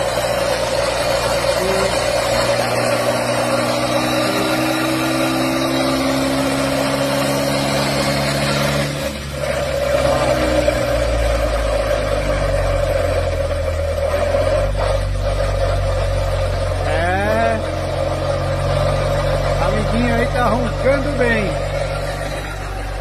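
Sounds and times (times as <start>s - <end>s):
drivetrain hum: 0.0s - 23.0s.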